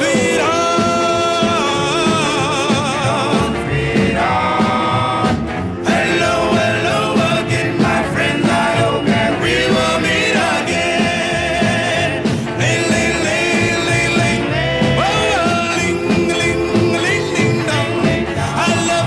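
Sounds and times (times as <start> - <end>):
band with steady bass line: 0.0 - 19.0
vocal group singing doo-wop: 0.0 - 19.0.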